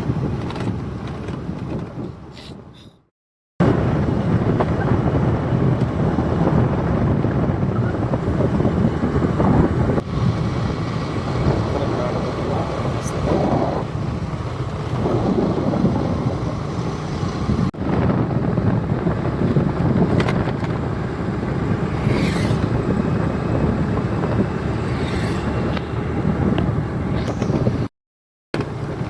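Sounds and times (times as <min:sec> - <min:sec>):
wind rushing over microphone: 0:00.0 - 0:02.8, 0:03.6 - 0:27.9
vehicle road noise: 0:00.0 - 0:27.9, 0:28.6 - 0:29.0.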